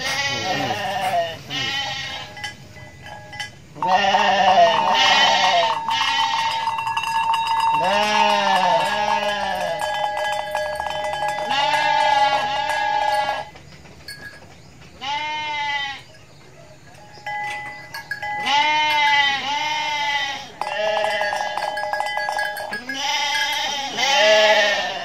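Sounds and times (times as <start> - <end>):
goats and sheep bleating: 0.0 - 13.6, 14.9 - 16.3, 16.9 - 25.0
steady ringing tone: 0.0 - 14.6, 16.1 - 24.8.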